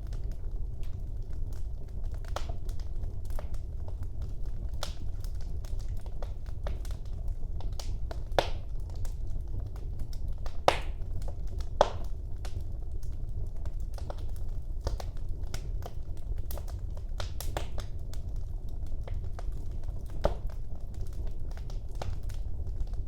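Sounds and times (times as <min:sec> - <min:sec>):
fire crackles: 0:00.0 - 0:23.0
loud fire pops: 0:00.0 - 0:23.0
low rumble of flame: 0:00.0 - 0:23.0.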